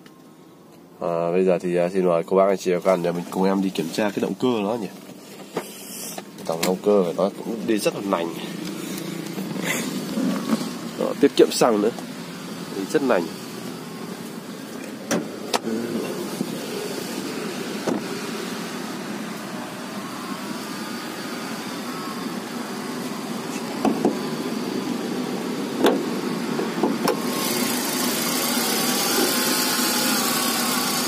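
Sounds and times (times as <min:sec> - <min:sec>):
car engine idling: 0:02.8 - 0:31.0.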